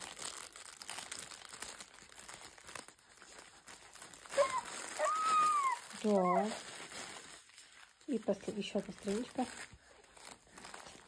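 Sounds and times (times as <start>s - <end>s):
cloth book pages rustling: 0.0s - 11.0s.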